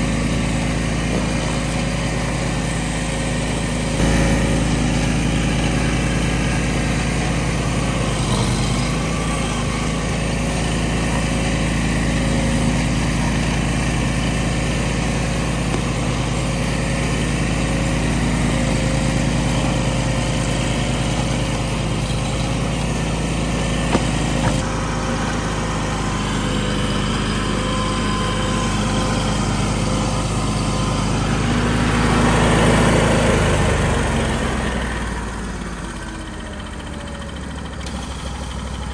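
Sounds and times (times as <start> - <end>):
stump grinder engine running: 0.0 - 38.9.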